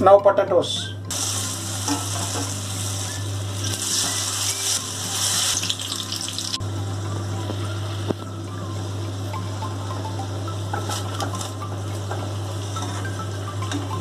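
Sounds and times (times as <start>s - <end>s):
deep-frying oil sizzle: 1.1s - 14.0s.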